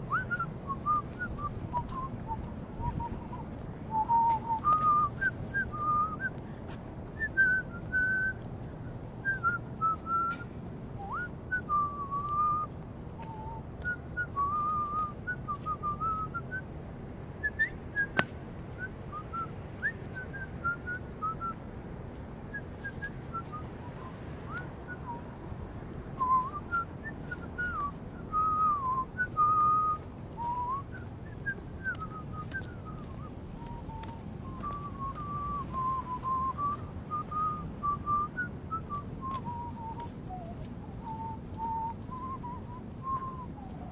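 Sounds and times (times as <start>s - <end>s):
low steady rumble: 0.0s - 43.9s
person whistling a tune: 0.1s - 6.4s, 7.2s - 8.4s, 9.2s - 16.6s, 17.4s - 18.2s, 18.8s - 21.6s, 22.5s - 25.3s, 26.2s - 43.9s.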